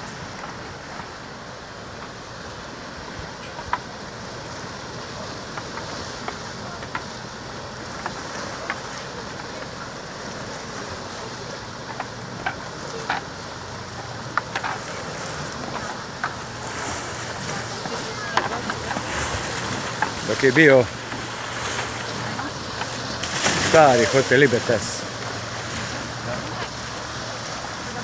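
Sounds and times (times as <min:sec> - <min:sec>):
sea washing against rocks: 0:00.0 - 0:28.0.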